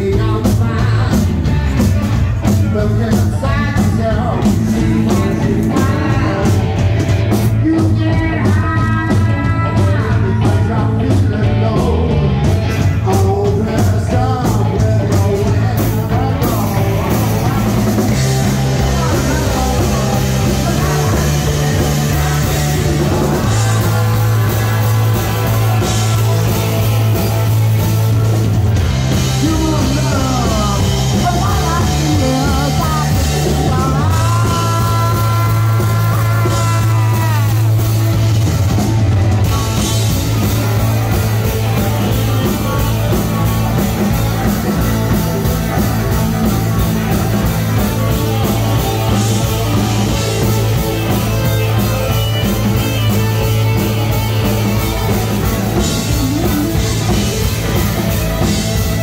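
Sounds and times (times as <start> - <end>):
drums: 0.0 - 59.0
electric guitars: 0.0 - 59.0
live rock band playing: 0.0 - 59.0
low bass line: 0.0 - 59.0.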